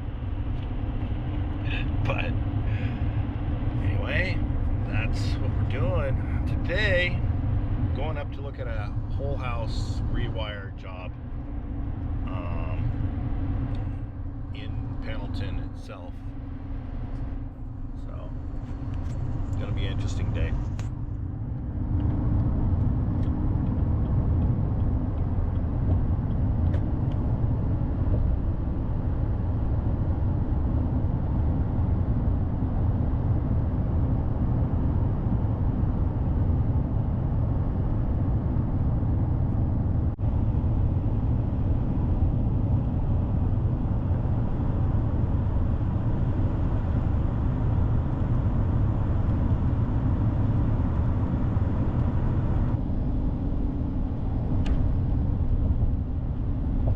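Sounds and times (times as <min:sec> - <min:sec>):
truck road and engine rumble: 0:00.0 - 0:56.9.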